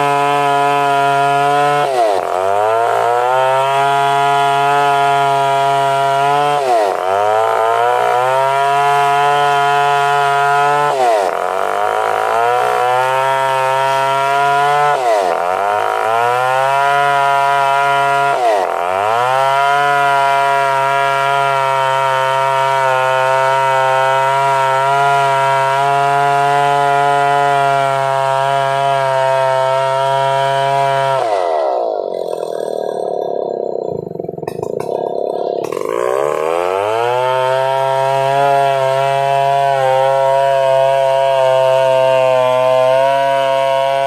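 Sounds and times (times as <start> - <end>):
chainsaw running at high revs: 0.0 - 44.0.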